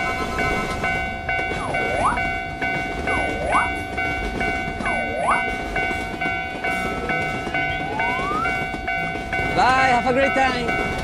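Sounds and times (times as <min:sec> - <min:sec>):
level-crossing warning bell: 0:00.0 - 0:11.0
passing train rumble: 0:00.0 - 0:11.0.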